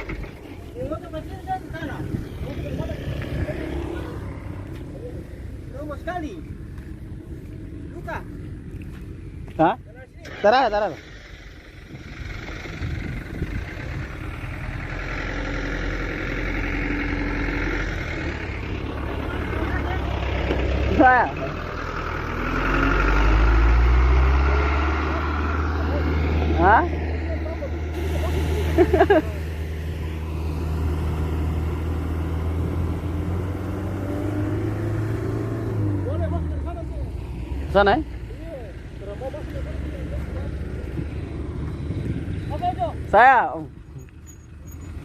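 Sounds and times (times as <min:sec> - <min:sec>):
diesel truck engine rumbling: 0:00.0 - 0:45.0.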